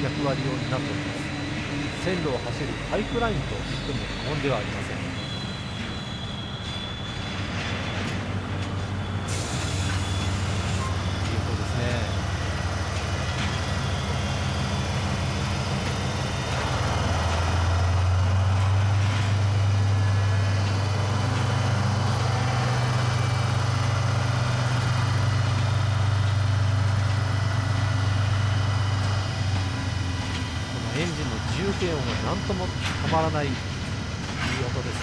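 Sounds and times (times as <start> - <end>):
locomotive engine droning: 0.0 - 35.0.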